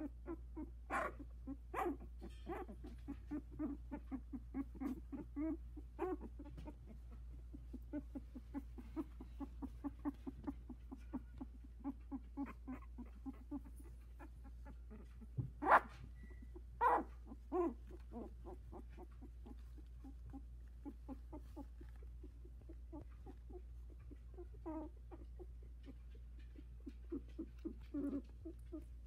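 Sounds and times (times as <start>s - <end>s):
puppy crying: 0.0s - 29.0s
puppy grunting squeaks: 0.0s - 29.0s.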